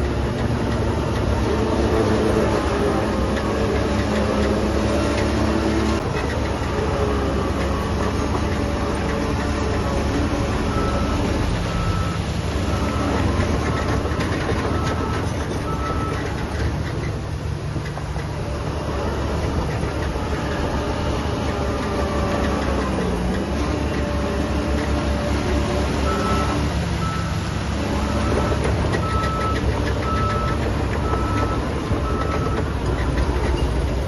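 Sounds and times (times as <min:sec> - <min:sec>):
diesel engine drone: 0:00.0 - 0:34.0.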